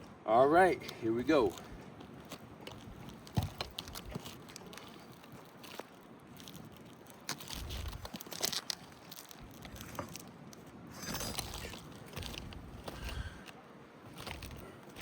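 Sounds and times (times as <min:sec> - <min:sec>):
scraping and crackling of shingles: 0:00.8 - 0:15.0.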